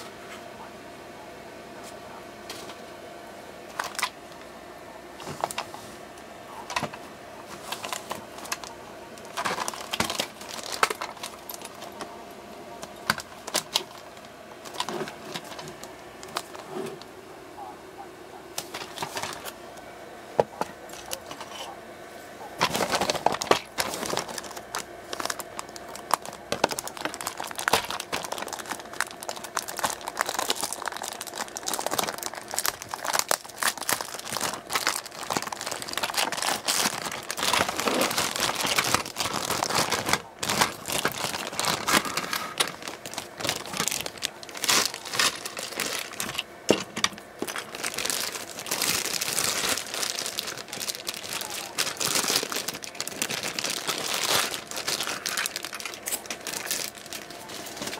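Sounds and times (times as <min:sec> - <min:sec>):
plastic bags crinkling: 0:03.7 - 0:04.5, 0:05.2 - 0:05.8, 0:06.6 - 0:12.2, 0:12.8 - 0:17.1, 0:18.6 - 0:19.6, 0:20.4 - 0:21.8, 0:22.5 - 0:57.9.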